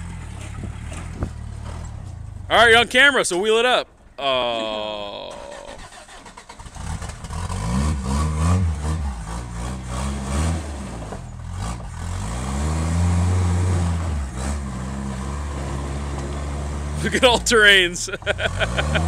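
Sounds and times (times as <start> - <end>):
truck engine revving: 0.0 - 2.9, 5.1 - 19.0.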